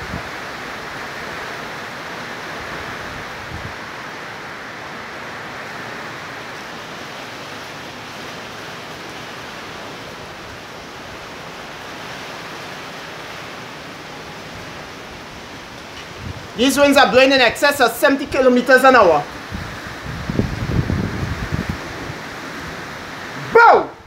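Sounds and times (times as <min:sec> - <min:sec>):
strong storm wind blowing: 0:00.0 - 0:07.5, 0:09.5 - 0:24.0
rain: 0:00.0 - 0:24.0.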